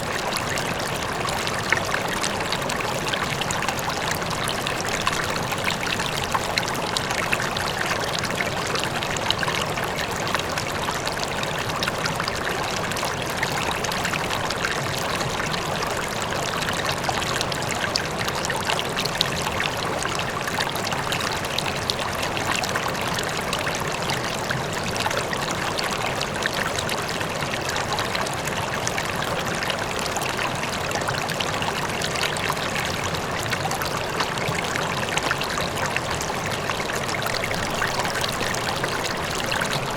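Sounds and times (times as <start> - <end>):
faint waterfall: 0.0 - 39.9
river flowing over stones: 0.0 - 39.9.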